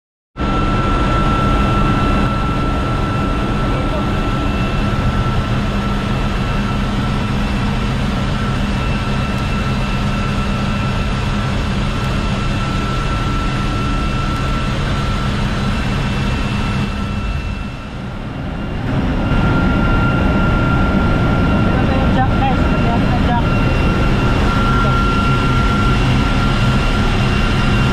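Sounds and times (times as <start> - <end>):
engine-room machinery hum: 0.4 - 27.9
high-pitched machinery whine: 0.4 - 27.9.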